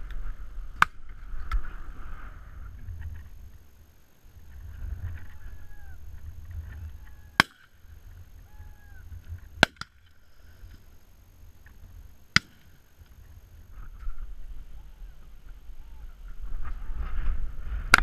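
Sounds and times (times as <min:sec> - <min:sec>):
wind rumbling on microphone: 0:00.0 - 0:09.6, 0:13.0 - 0:18.0.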